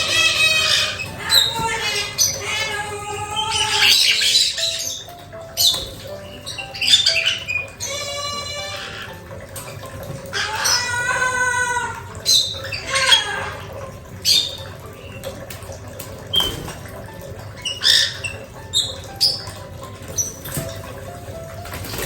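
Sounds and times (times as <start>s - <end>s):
parrot squawking and chirping: 0.0s - 15.2s, 17.5s - 20.7s.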